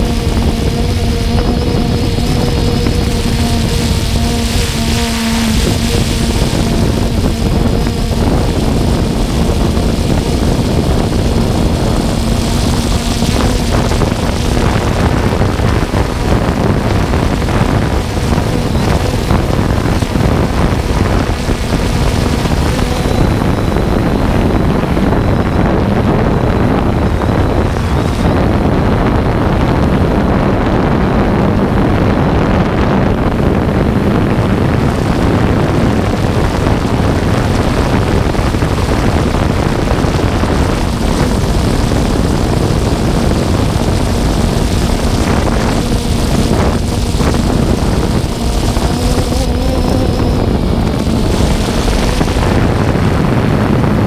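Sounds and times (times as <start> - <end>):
drone rotors whirring: 0.0 - 54.0
faint motor whine: 0.0 - 54.0
wind noise: 0.0 - 54.0.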